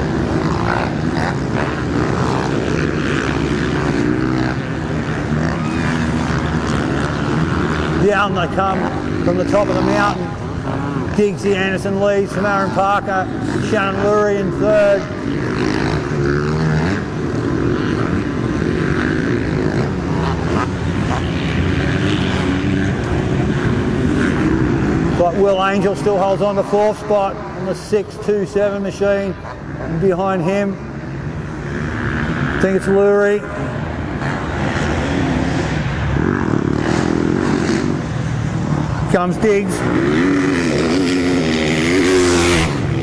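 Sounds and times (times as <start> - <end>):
motocross bike engines revving: 0.0 - 43.0.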